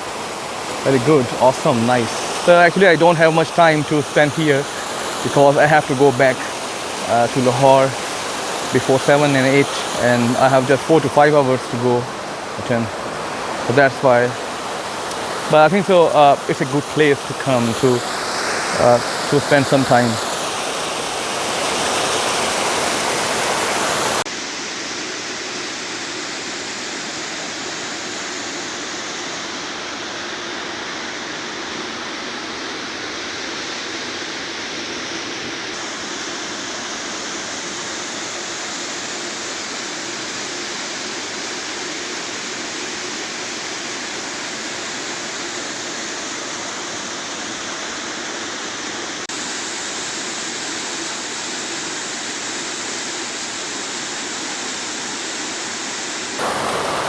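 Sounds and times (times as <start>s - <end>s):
waterfall rushing: 0.0s - 24.3s, 28.2s - 57.0s.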